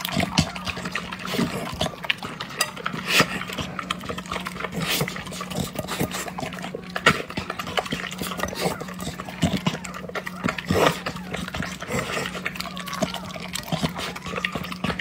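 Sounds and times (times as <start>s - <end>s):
dog chewing wet food: 0.0s - 15.0s.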